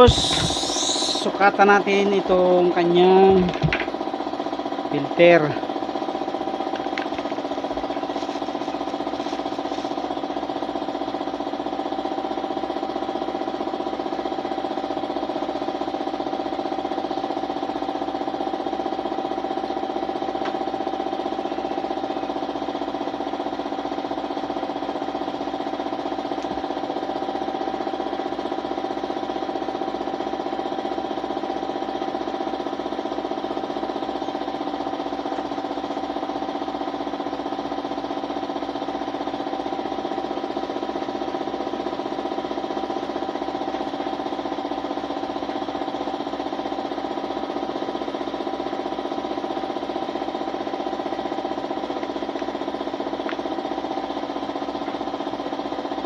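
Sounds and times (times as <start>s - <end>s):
air compressor piston chatter: 0.0s - 56.0s.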